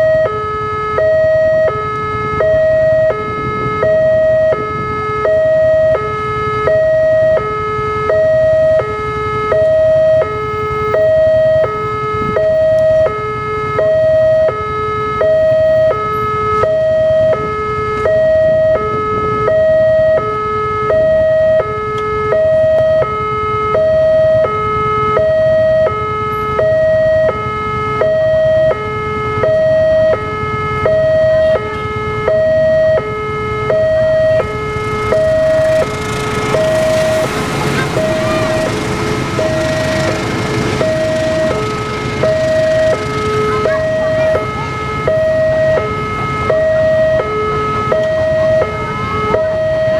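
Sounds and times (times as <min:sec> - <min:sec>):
two-tone crossing alarm: 0:00.0 - 0:49.9.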